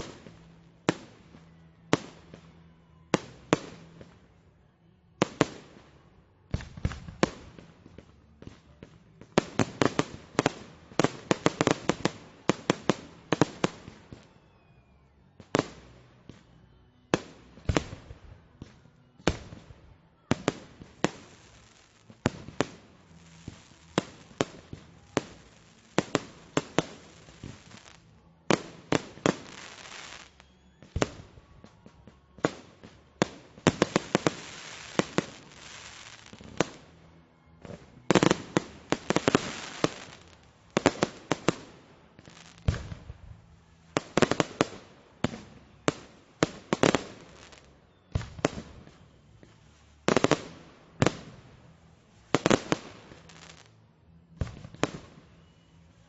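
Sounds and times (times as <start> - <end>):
fireworks crackling: 0.0 - 2.6, 5.2 - 53.8
fireworks explosions: 0.0 - 56.0.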